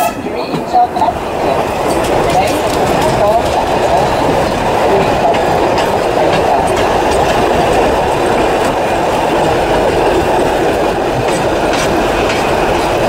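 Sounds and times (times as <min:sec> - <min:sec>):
sharp clacks of train wheels: 0:00.0 - 0:13.0
train wheels rumbling on rails: 0:00.0 - 0:13.0.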